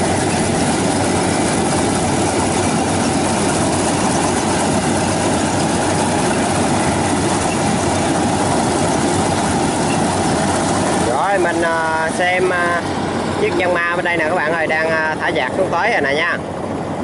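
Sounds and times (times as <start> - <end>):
combine harvester engine and machinery: 0.0 - 17.0.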